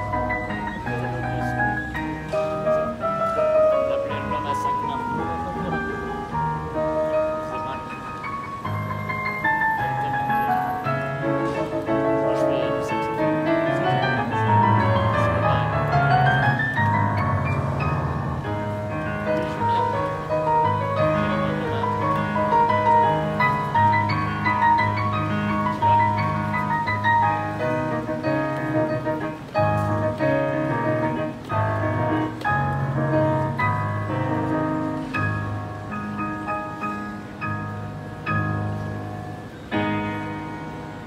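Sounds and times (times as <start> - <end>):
grand piano playing: 0.0 - 41.0.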